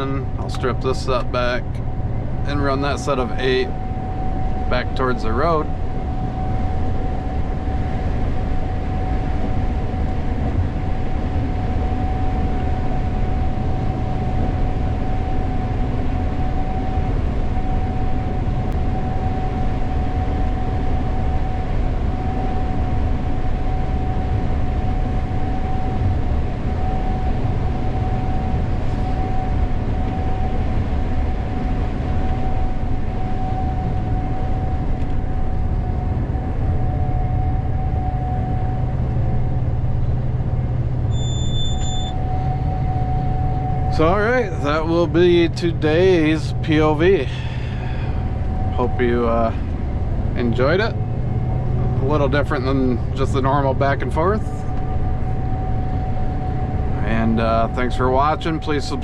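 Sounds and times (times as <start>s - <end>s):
high whine: 0.0s - 59.0s
machinery rumble: 0.0s - 59.0s.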